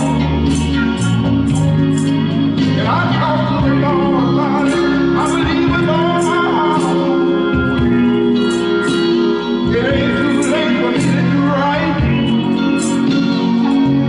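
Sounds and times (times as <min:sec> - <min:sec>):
gospel singing: 0:00.0 - 0:14.0
organ: 0:00.0 - 0:14.0
steady beat: 0:00.0 - 0:14.0.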